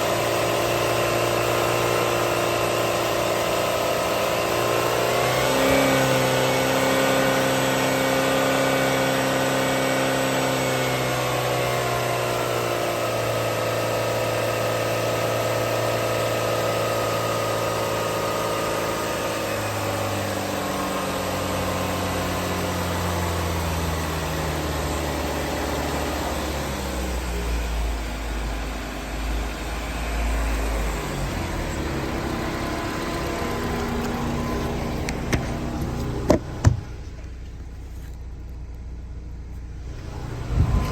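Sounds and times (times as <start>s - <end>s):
car engine idling: 0.0s - 9.5s, 11.6s - 40.9s.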